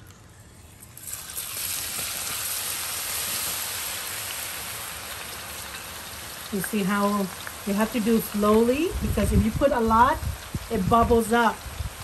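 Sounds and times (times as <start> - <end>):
garlic sizzling in hot oil: 1.0 - 12.0.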